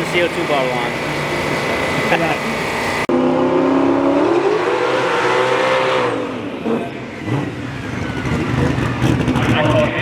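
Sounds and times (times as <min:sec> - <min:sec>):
race car engine accelerating: 0:00.0 - 0:10.0.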